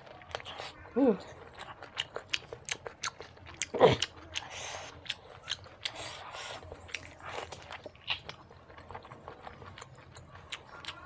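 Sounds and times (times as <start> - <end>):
chewing with wet mouth clicks: 0.0 - 11.0.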